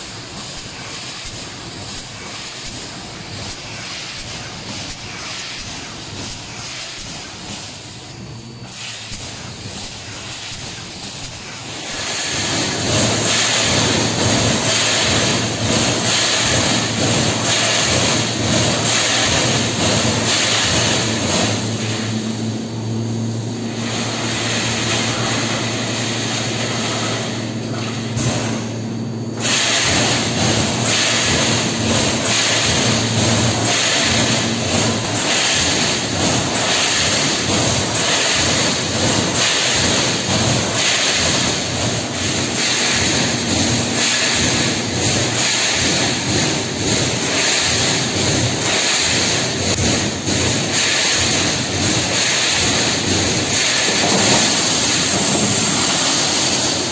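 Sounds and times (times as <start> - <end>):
rapid crackle of welds: 0.0 - 22.4, 23.3 - 56.9
welding machine low hum: 0.0 - 56.9.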